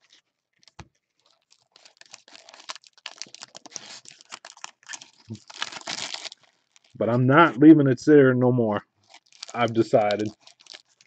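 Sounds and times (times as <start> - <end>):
plastic wrappers crinkling and tearing: 0.0 - 7.1, 8.9 - 11.0.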